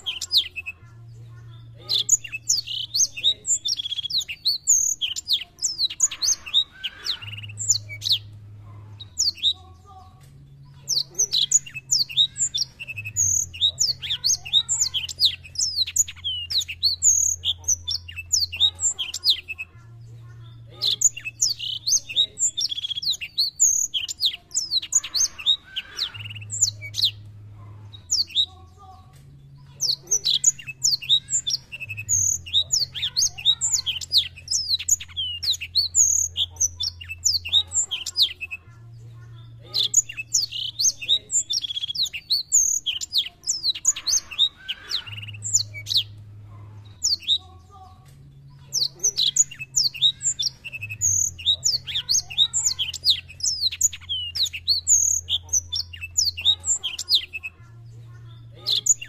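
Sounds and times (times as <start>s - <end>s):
canary singing: 0.0s - 59.0s
faint low hum: 0.0s - 59.0s.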